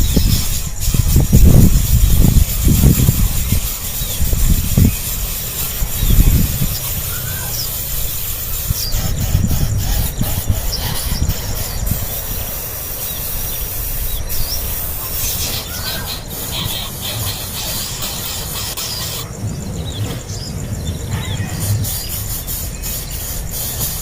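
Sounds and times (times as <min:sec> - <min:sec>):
nestling birds begging chirps: 0:00.0 - 0:24.0.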